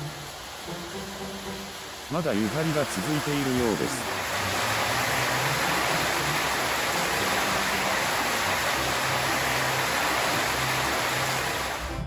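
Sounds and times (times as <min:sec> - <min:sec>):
water gushing into a tub: 0:01.9 - 0:12.0.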